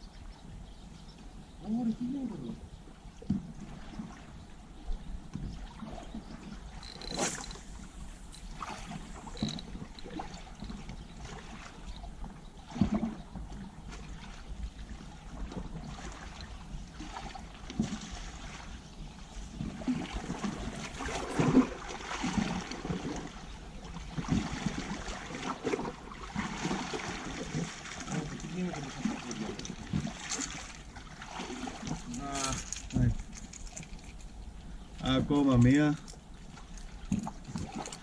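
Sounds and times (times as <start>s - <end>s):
waves lapping against rocks: 5.7s - 13.3s, 14.0s - 38.0s.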